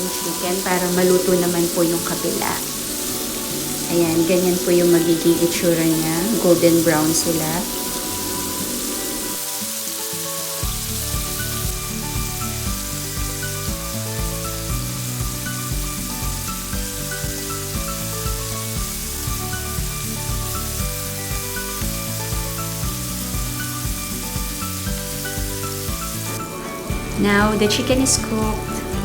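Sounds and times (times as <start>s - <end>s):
background music: 0.0s - 29.0s
chicken sizzling in oil: 0.0s - 29.0s.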